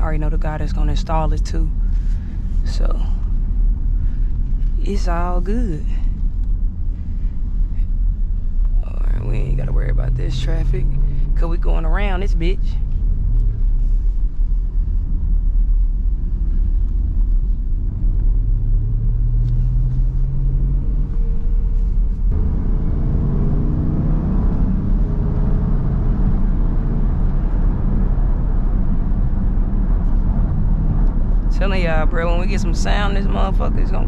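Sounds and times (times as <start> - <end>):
car engine from inside cabin: 0.0 - 34.0
low road rumble: 0.0 - 34.0.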